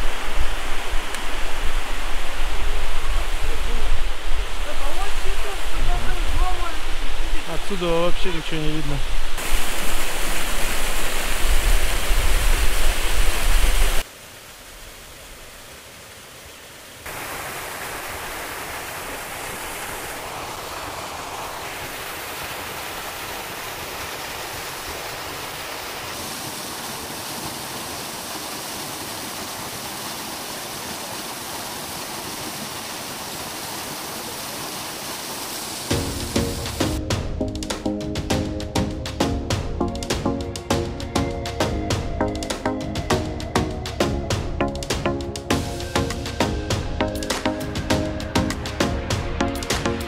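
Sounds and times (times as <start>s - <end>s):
rushing stream water: 0.0s - 50.0s.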